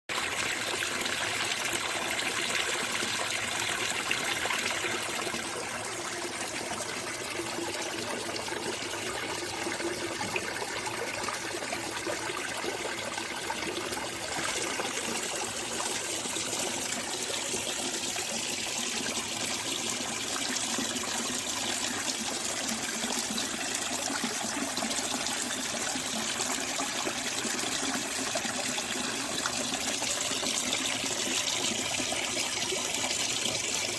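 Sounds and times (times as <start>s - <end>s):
water trickling and splashing: 0.1s - 33.9s.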